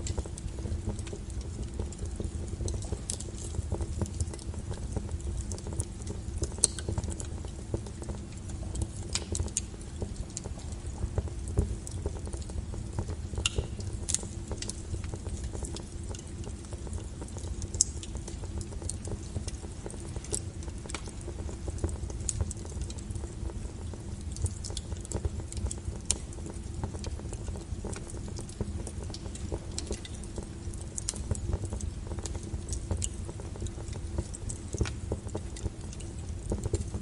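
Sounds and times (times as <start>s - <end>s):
firewood crackling and popping: 0.0s - 37.0s
wood fire rumbling: 0.0s - 37.0s.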